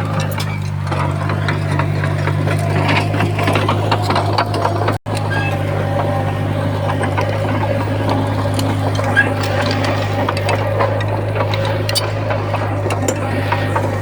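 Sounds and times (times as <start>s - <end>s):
bulldozer diesel engine running: 0.0s - 14.0s
tracks and stone clattering: 0.0s - 14.0s.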